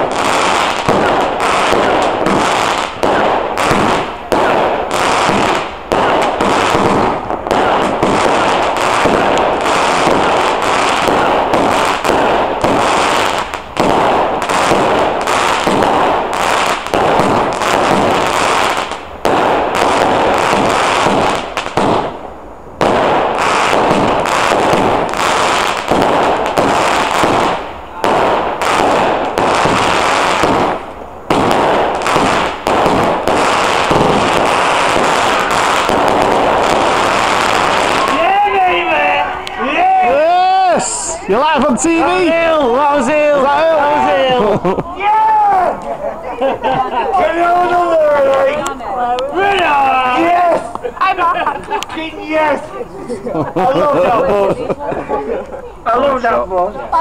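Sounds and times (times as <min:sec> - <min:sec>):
fireworks bangs and crackles: 0:00.0 - 0:54.8.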